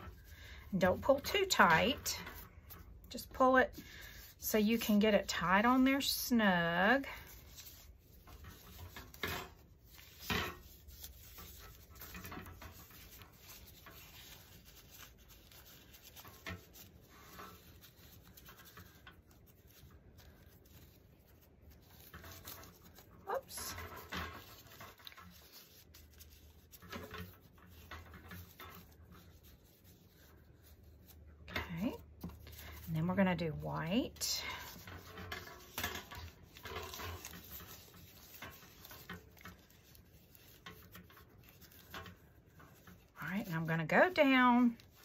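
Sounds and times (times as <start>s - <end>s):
plastic strips rustling and crinkling: 0.0s - 45.0s.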